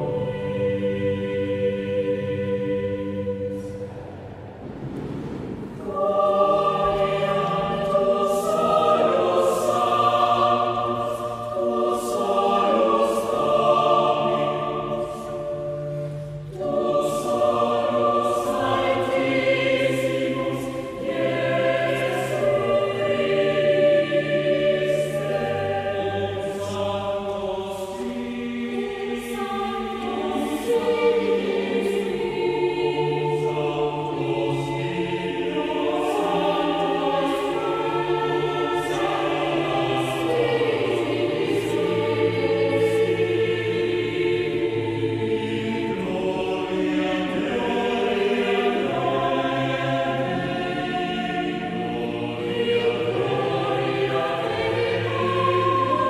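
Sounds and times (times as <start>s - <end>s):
choir singing sacred music: 0.0s - 56.0s.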